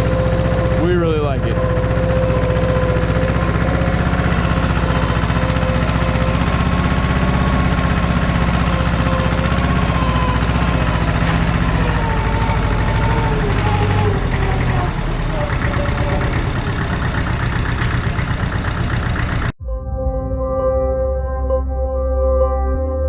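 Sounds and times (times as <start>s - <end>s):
tractor diesel engine running: 0.0s - 19.6s
steady whine: 0.0s - 21.4s.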